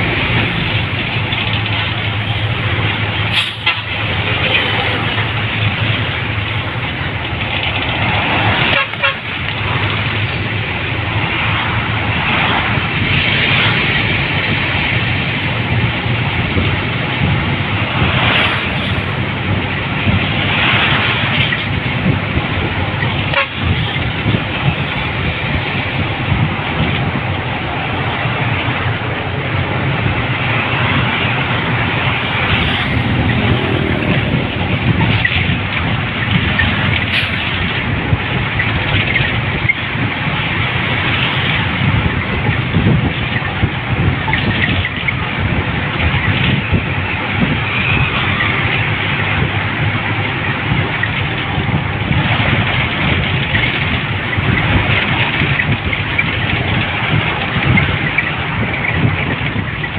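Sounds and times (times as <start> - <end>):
engine and tyre rumble: 0.0 - 59.9
wind: 0.0 - 59.9.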